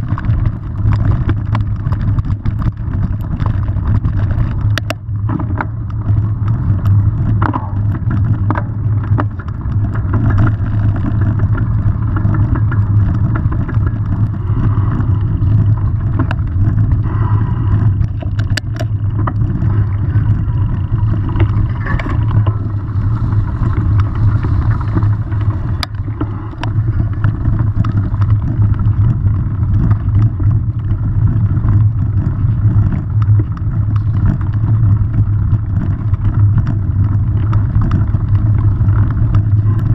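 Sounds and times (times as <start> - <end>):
bike knocks and rattles: 0.0 - 39.9
bike tyres rumbling on dirt: 0.0 - 39.9
wind on microphone: 0.0 - 39.9.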